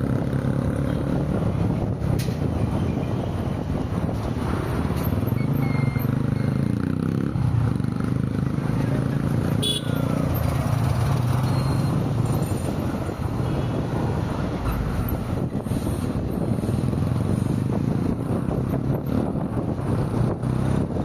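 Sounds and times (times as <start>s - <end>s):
engine hum and road noise: 0.0s - 21.0s.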